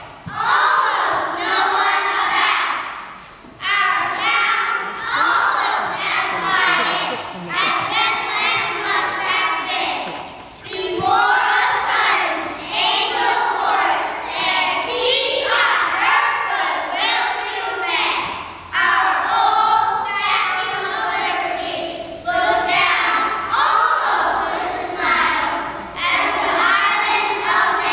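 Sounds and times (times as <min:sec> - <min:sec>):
children's choir singing: 0:00.0 - 0:27.9.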